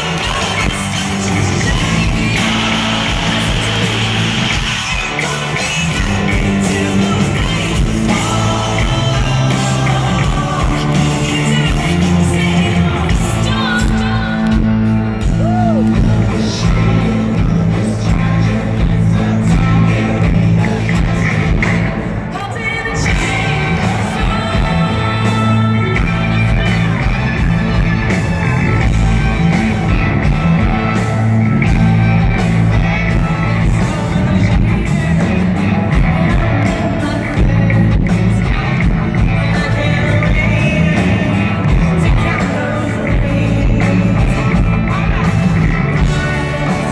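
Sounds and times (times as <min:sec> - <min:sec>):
woman singing lead vocal: 0:00.0 - 0:27.8, 0:32.7 - 0:46.9
bass: 0:00.0 - 0:46.9
drums: 0:00.0 - 0:46.9
electric guitars: 0:00.0 - 0:46.9.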